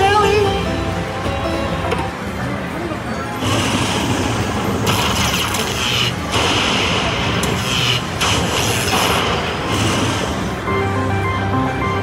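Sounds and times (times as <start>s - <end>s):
slot machine game sounds: 0.0s - 7.3s, 8.6s - 12.0s.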